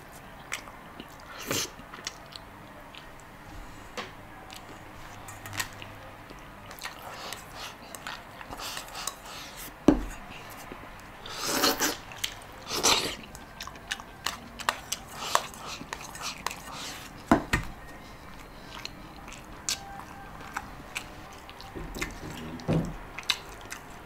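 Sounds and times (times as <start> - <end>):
person chewing and sucking: 4.5 - 24.0.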